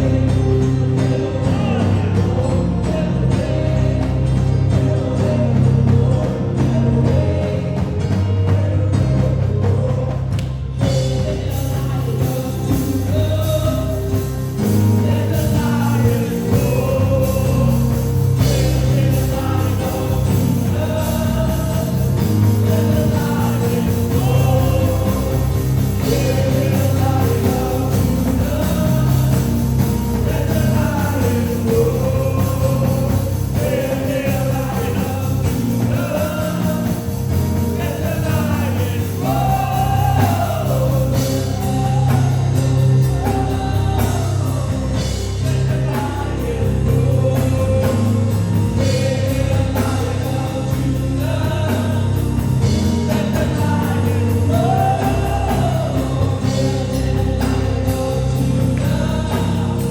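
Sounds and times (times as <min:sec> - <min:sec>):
band playing bass-heavy accompaniment: 0:00.0 - 0:59.9
gospel singers: 0:00.0 - 0:59.9.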